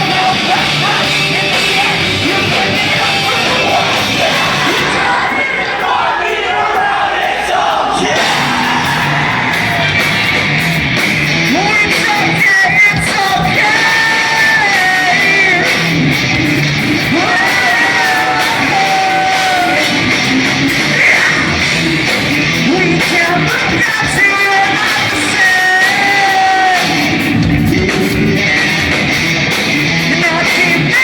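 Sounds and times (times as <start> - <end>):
live rock band playing: 0.0 - 6.0, 8.0 - 31.0
yelled vocals: 0.0 - 31.0.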